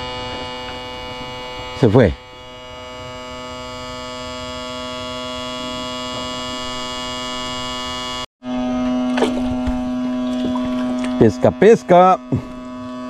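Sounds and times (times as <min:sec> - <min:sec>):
steady motor hum: 0:00.0 - 0:13.0.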